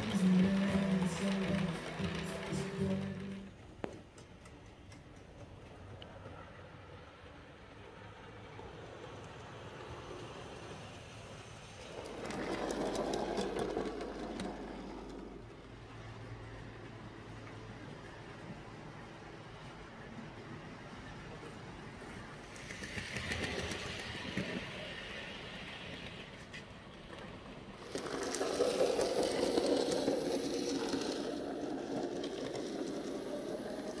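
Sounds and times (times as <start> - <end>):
model locomotives humming: 0.0 - 34.0.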